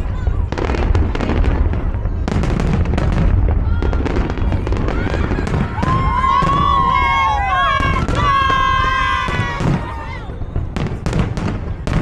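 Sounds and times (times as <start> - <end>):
fireworks bangs and crackles: 0.0 - 12.0
low firework booms: 0.0 - 12.0.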